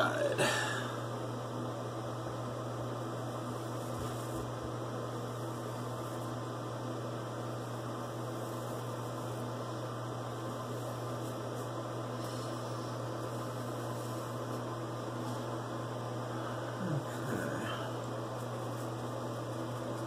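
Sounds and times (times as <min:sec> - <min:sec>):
constant hiss: 0:00.0 - 0:20.0
low electrical hum: 0:00.0 - 0:20.0.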